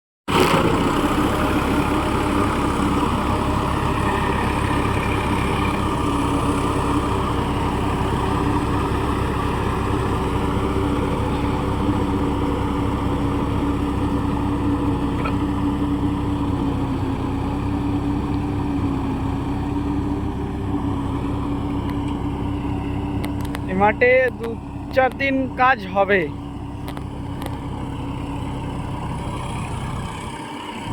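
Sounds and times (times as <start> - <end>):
tractor diesel engine droning: 0.3 - 30.9.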